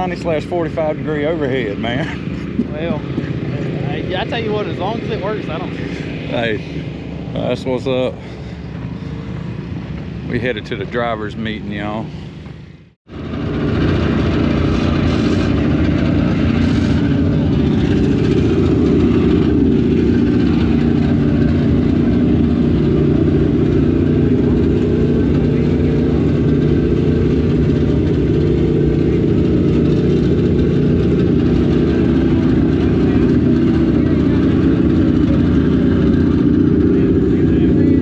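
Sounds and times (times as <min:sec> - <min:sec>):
car engines running: 0:00.0 - 0:38.0.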